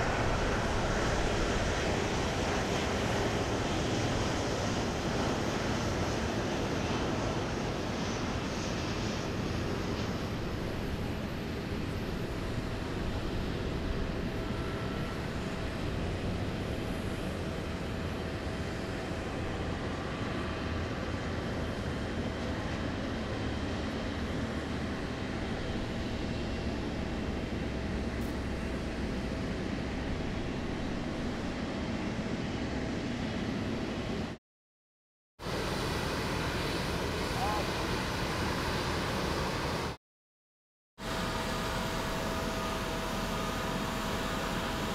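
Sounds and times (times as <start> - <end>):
jet airliner rumble and hiss: 0.0 - 34.4, 35.4 - 40.0, 41.0 - 44.9.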